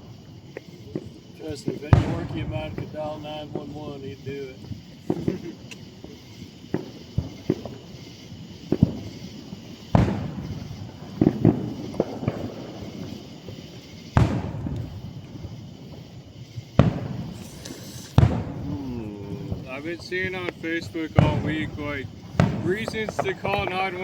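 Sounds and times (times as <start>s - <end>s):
fireworks booming: 0.0s - 24.0s.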